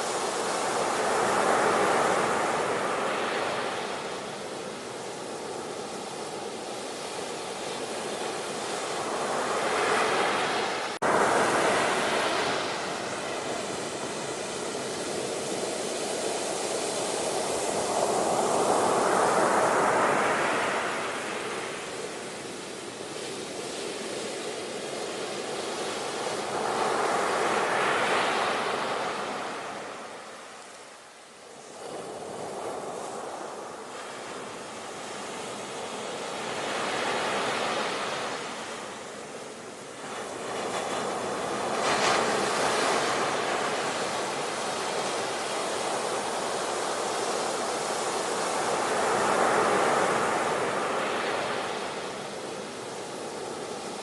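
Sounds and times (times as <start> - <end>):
ocean waves breaking: 0.0 - 30.7, 31.6 - 54.0.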